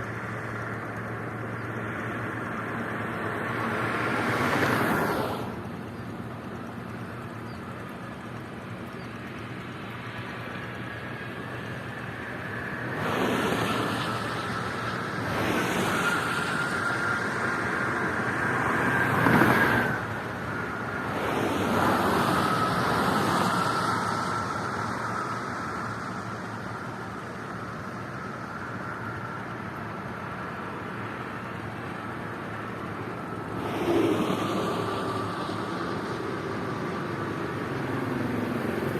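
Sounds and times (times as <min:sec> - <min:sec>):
road noise: 0:00.0 - 0:38.9
vehicles passing at speed: 0:00.0 - 0:38.9.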